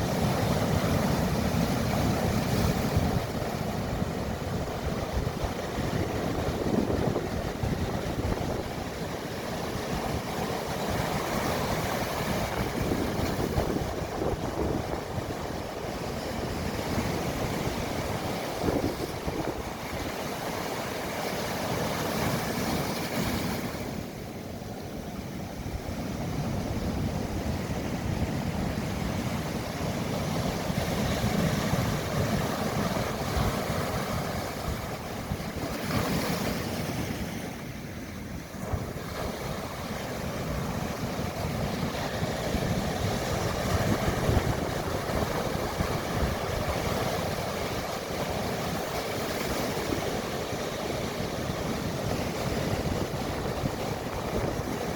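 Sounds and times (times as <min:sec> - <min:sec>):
waves breaking: 0:00.0 - 0:54.9.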